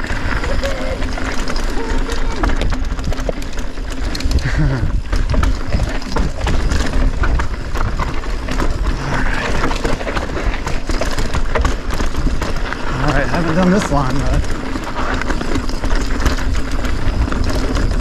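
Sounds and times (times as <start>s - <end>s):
bike rattling and knocking: 0.0s - 18.0s
tyres rolling over dirt and stones: 0.0s - 18.0s.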